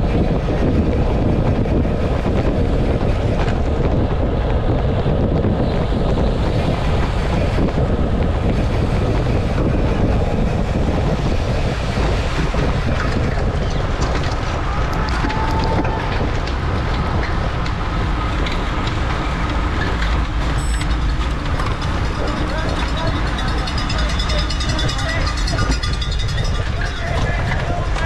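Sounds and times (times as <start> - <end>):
tyre and road rumble: 0.0 - 28.0
wind on microphone: 0.0 - 28.0.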